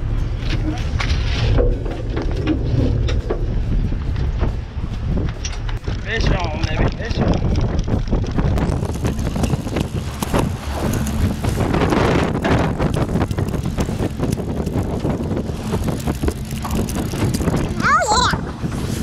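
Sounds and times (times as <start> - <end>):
boat rumbling at sea: 0.0 - 19.0
wind buffeting microphone: 0.0 - 19.0.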